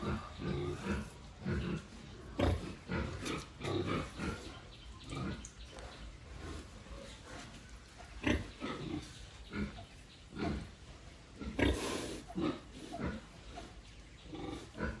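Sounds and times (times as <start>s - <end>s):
pig grunting: 0.0s - 10.8s, 11.4s - 15.0s.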